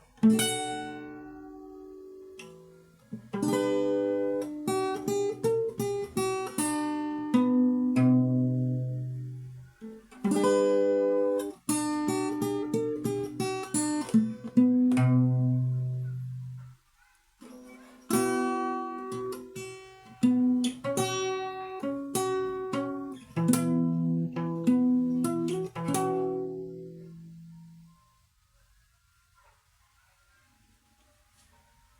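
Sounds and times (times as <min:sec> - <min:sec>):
fingerstyle acoustic guitar: 0:00.0 - 0:27.9.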